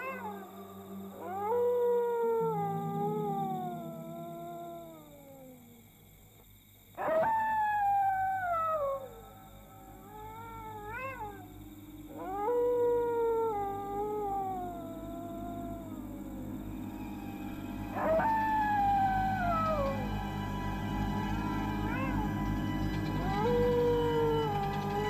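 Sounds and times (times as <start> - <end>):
dog howling: 0.0 - 5.8, 7.0 - 25.0
low steady hum: 0.0 - 6.7, 9.0 - 25.0.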